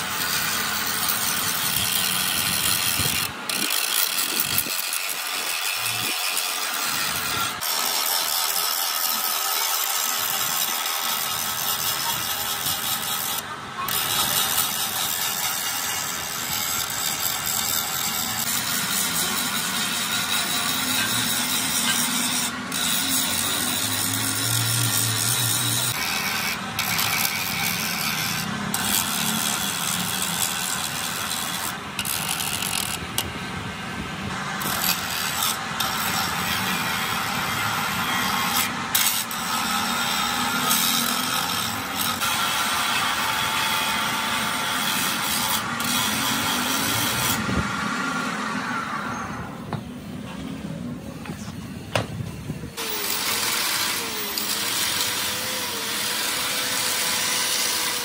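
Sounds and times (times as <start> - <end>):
grinder grinding metal: 0.0 - 50.4, 52.6 - 58.0.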